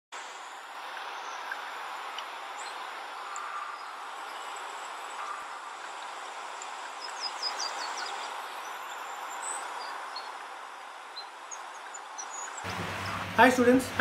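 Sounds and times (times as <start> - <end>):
steady hiss: 0.2 - 14.0.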